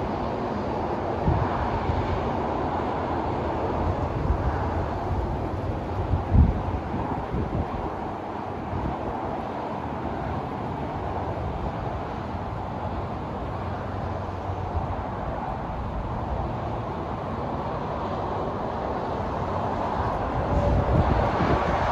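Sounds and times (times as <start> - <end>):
highway traffic rumble: 0.0 - 21.9.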